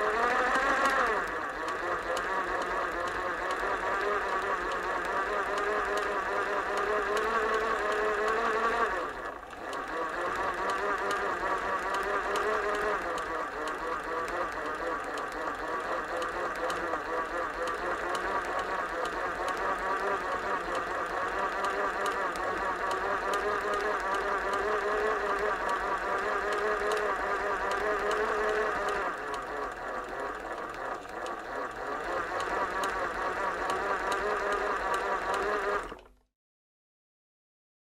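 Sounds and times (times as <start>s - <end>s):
sewing machine running: 0.0s - 36.2s.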